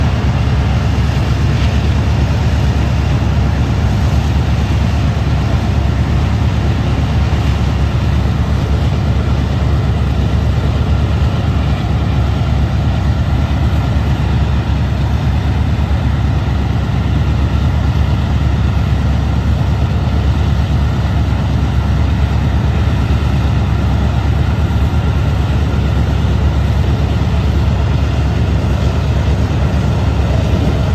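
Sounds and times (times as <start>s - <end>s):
diesel locomotive engines droning: 0.0s - 30.9s.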